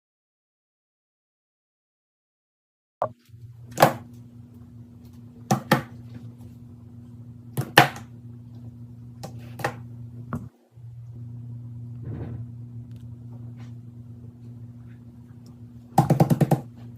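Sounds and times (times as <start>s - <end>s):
low electrical hum: 3.0s - 16.9s.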